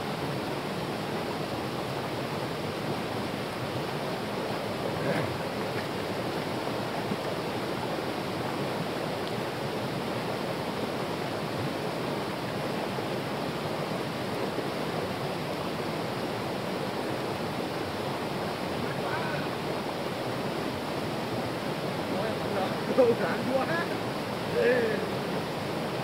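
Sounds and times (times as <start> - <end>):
rocky mountain stream flowing: 0.0 - 26.0.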